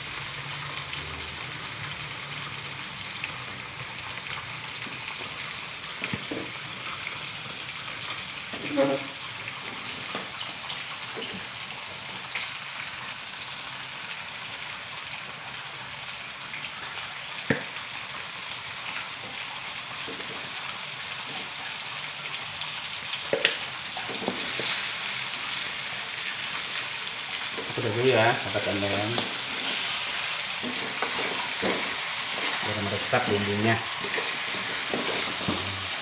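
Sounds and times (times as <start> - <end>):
chicken sizzling in a wok: 0.0 - 36.0.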